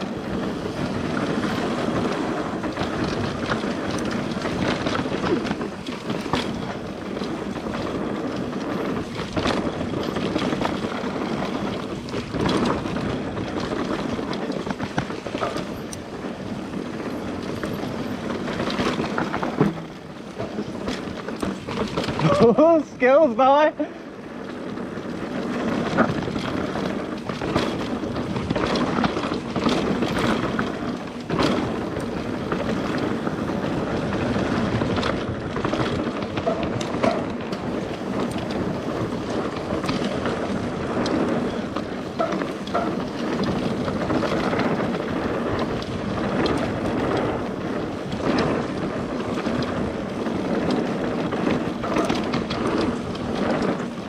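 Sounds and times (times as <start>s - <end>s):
bike knocking on roots and rocks: 0.0s - 54.0s
bike tyre and drivetrain rattle: 0.0s - 54.0s
wind on microphone: 0.0s - 54.0s.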